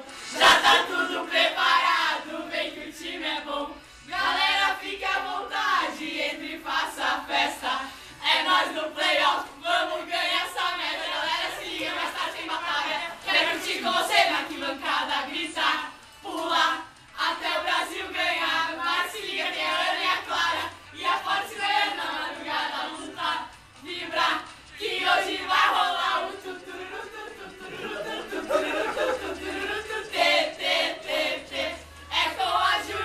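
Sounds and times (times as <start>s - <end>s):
young women singing in unison: 0.0s - 33.0s.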